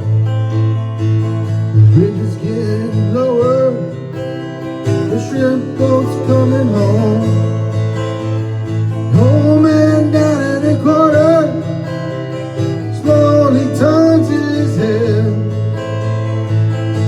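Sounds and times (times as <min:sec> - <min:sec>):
country acoustic guitar music: 0:00.0 - 0:17.0.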